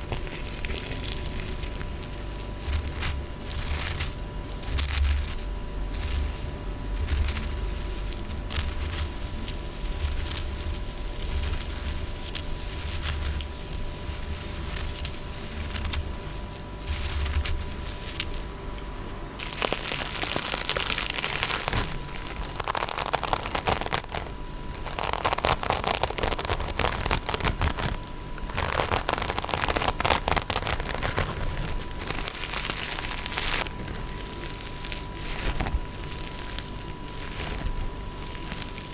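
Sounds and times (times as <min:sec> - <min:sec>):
crackly scratching: 0:00.0 - 0:38.9.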